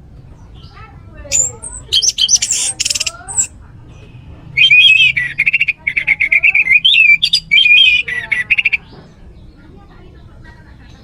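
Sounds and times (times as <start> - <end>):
thrush singing trills: 0.0 - 11.0.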